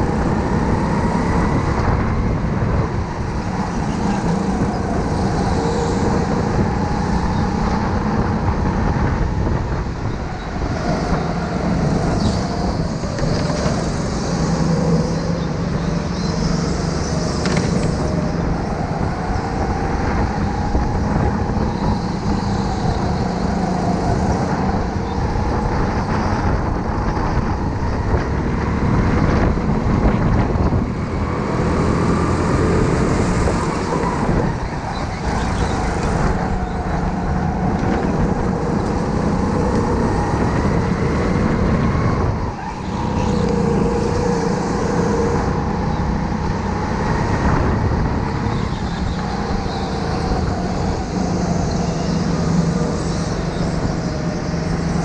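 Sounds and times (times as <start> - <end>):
tyres and wind rumble: 0.0 - 55.0.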